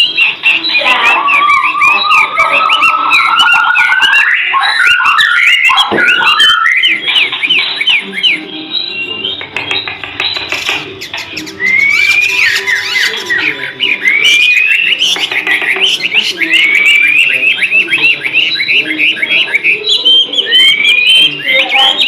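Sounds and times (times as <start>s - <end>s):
bird singing whistled trills: 0.0s - 22.0s.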